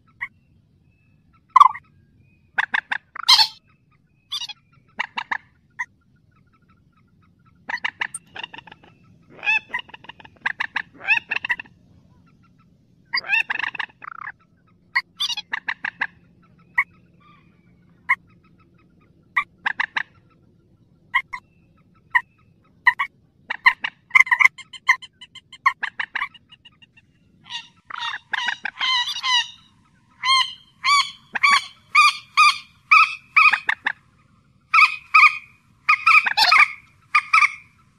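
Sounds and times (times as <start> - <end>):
rail bird calling: 0.0 - 37.9.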